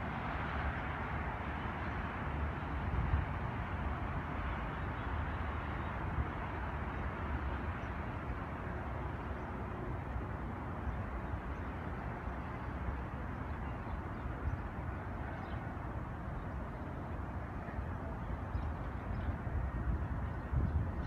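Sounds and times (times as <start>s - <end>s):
distant traffic hum: 0.0s - 21.0s.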